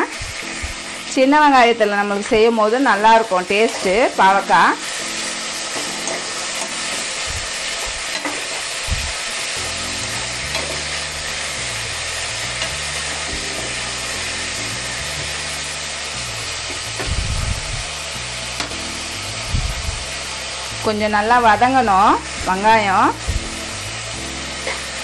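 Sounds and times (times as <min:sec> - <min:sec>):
shallots sizzling in hot oil: 0:00.0 - 0:25.0.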